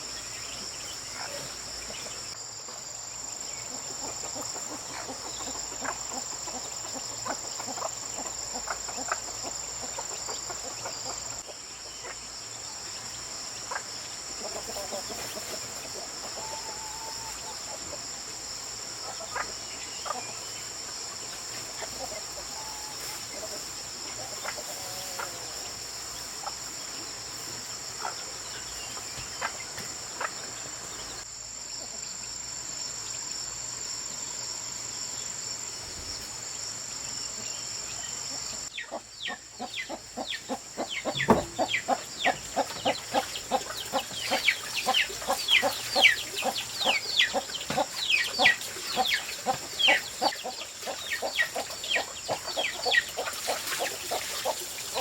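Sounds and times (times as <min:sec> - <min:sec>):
chickens clucking: 0:00.0 - 0:02.9, 0:03.6 - 0:31.2, 0:37.4 - 0:55.0
crickets and insects chorus: 0:00.0 - 0:55.0.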